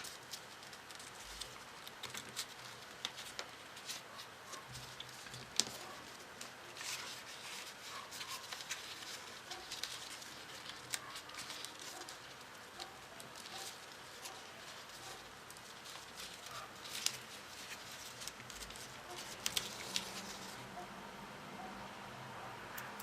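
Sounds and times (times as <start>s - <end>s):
paper rustling and crinkling: 0.0s - 20.8s.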